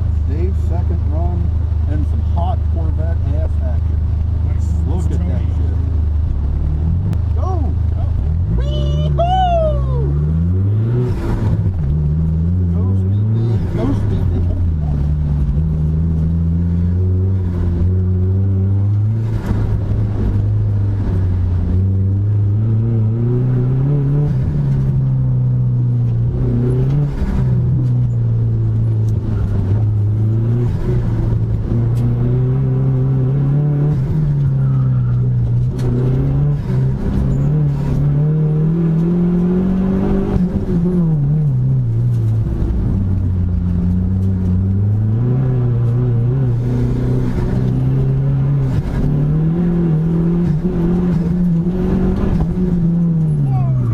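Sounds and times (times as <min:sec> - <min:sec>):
car engine revving hard: 0:10.0 - 0:53.9.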